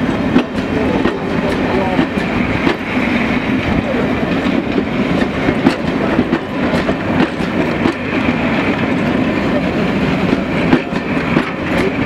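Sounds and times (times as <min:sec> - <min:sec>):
rail rumble of passing coaches: 0:00.0 - 0:12.0
wheels clattering on track: 0:00.0 - 0:12.0.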